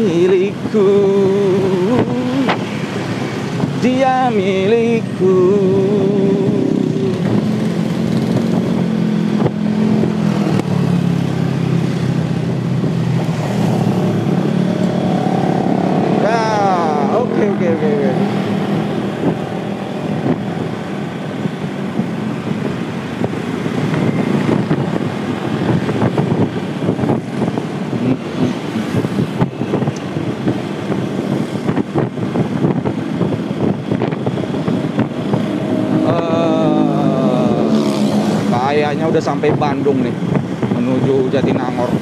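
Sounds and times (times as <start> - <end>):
road and wind noise: 0.0 - 42.0
surrounding vehicles: 0.0 - 42.0.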